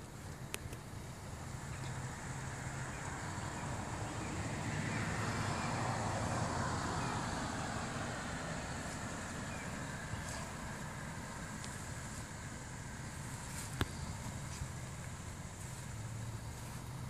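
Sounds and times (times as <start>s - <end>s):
steady low hum: 0.0s - 17.0s
vehicle passing: 1.1s - 17.0s.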